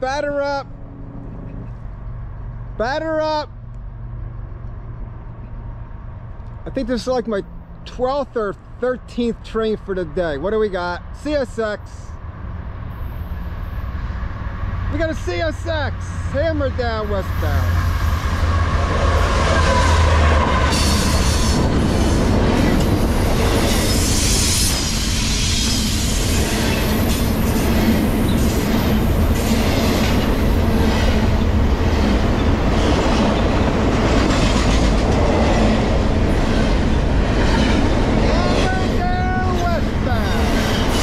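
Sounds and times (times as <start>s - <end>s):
diesel locomotive engine drone: 0.0s - 41.0s
freight cars rumbling: 0.0s - 41.0s.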